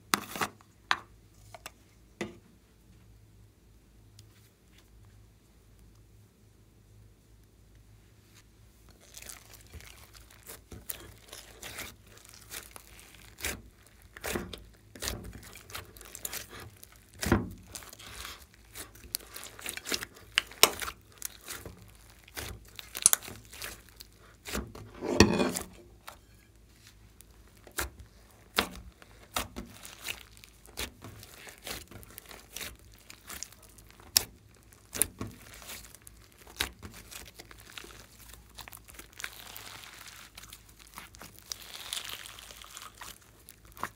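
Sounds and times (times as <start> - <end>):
slime squelch: 8.4 - 43.9.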